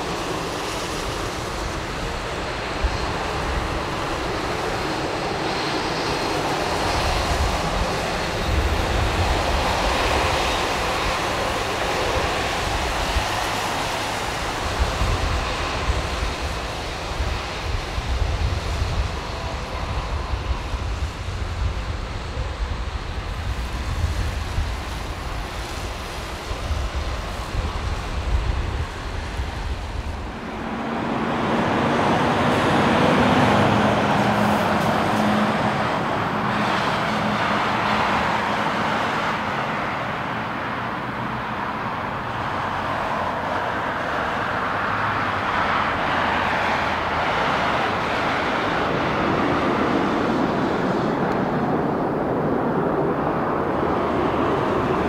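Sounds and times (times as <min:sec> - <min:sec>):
wind on microphone: 0:00.0 - 0:40.9, 0:41.6 - 0:55.0
jet engine noise: 0:00.0 - 0:55.0.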